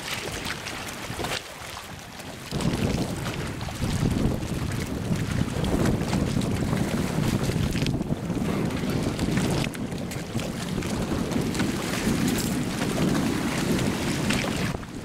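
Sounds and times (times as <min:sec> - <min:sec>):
water moving around boat: 0:00.0 - 0:15.0
wind buffeting microphone: 0:00.0 - 0:15.0.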